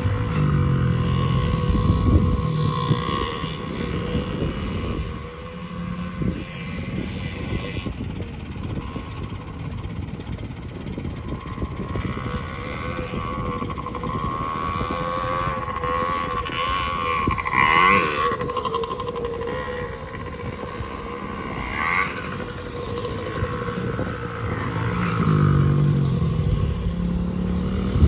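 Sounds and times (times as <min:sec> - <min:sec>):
small dirt bike engines buzzing: 0:00.0 - 0:28.0.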